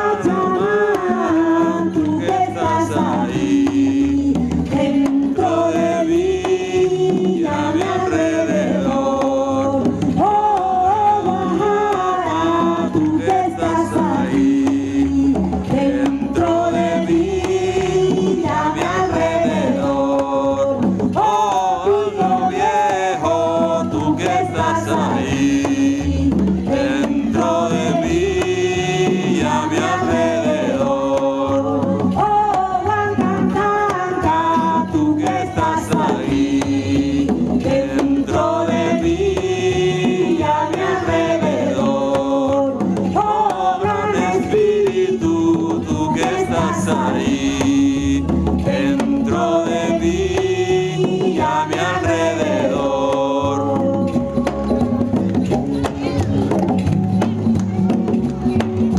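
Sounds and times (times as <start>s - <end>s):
chant-like singing: 0.0s - 56.5s
steady drum rhythm: 0.0s - 58.9s.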